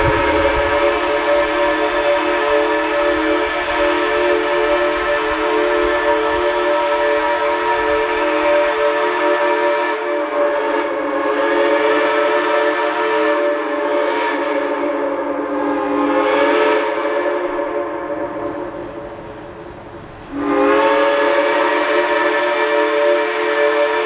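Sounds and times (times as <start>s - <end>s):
steam whistle chord blasts: 0.0s - 24.0s.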